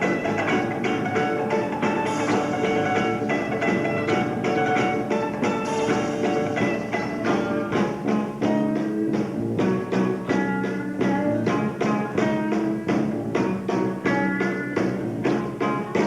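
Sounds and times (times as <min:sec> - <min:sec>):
guitar playing: 0:00.0 - 0:16.0.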